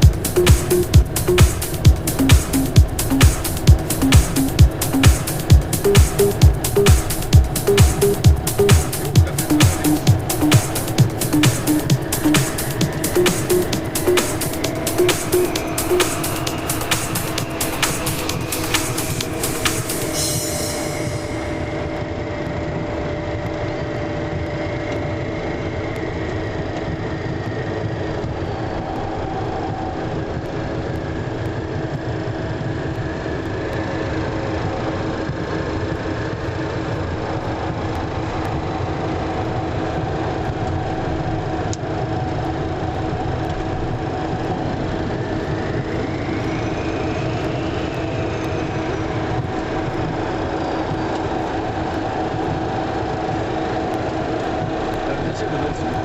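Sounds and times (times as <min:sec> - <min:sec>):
constant hum: 0:00.0 - 0:56.0
jet engine noise inside cabin: 0:00.0 - 0:56.0.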